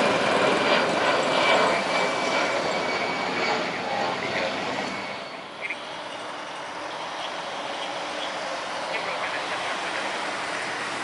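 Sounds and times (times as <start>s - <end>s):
jet engines rushing hiss: 0.0s - 11.0s.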